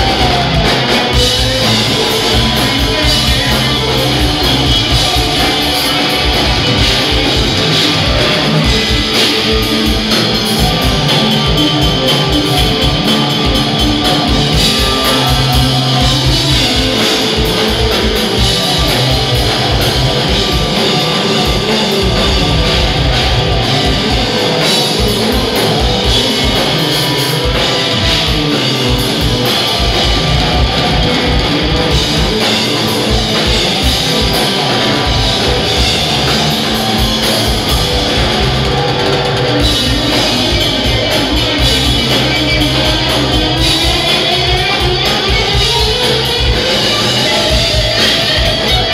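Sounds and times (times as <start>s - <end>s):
drum kit beat: 0.0s - 48.9s
electric bass: 0.0s - 48.9s
electric guitar: 0.0s - 48.9s.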